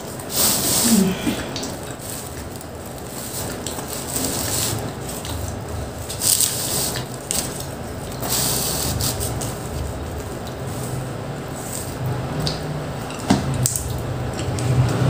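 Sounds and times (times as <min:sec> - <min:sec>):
paper rustling: 0:00.0 - 0:12.1
chewing and wet mouth sounds: 0:00.0 - 0:15.0.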